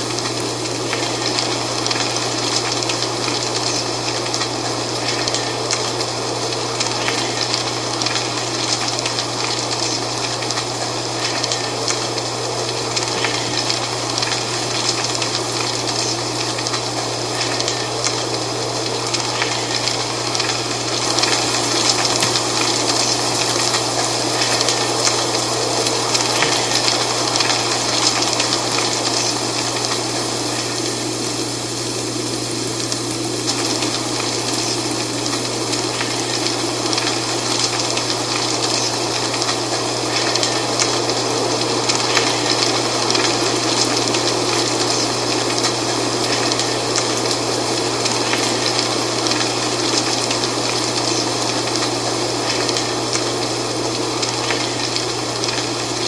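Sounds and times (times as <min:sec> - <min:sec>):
dry leaves rustling in wind: 0:00.0 - 0:56.0.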